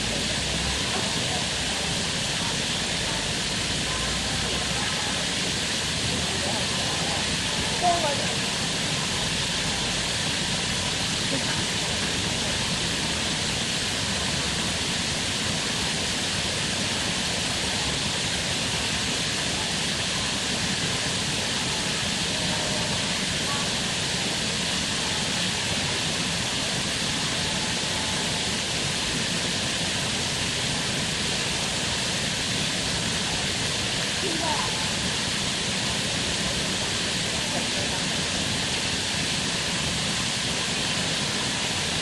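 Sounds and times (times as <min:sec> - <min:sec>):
steady outdoor hiss: 0:00.0 - 0:42.0.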